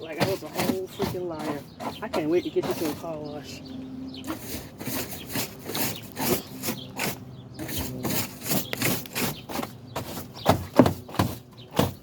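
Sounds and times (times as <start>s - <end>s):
rubbing strokes on metal gate: 0.0s - 3.6s, 4.2s - 12.0s.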